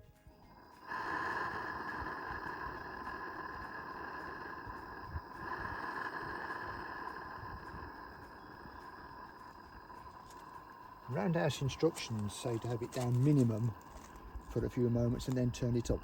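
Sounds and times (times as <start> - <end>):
gas burner hissing: 0.5 - 16.0.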